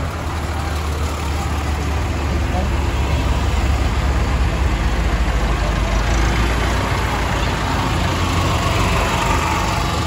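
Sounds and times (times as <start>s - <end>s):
tractor diesel engine throbbing: 0.0s - 10.0s.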